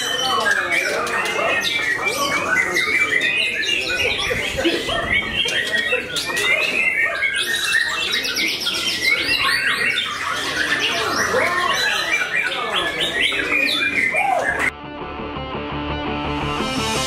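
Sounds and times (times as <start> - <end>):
bird singing varied song: 0.0 - 14.7.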